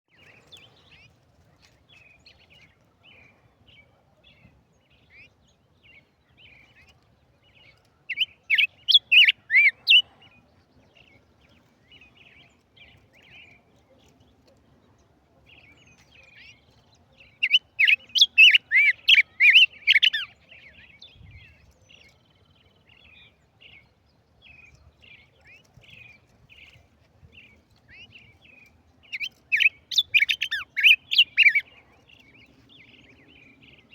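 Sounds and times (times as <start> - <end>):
songbird chirping: 0.1 - 33.9
songbird warbling song: 0.1 - 33.9.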